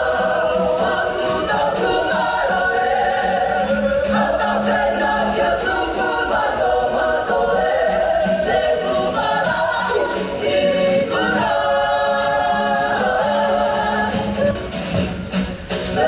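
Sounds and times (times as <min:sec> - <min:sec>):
voices singing in harmony: 0:00.0 - 0:16.0.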